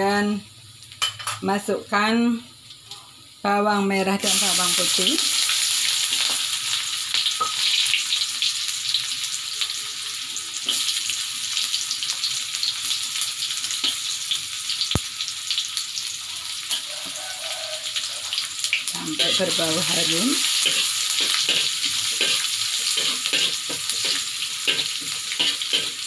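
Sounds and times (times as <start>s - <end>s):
shallots sizzling in hot oil: 0.0s - 26.0s.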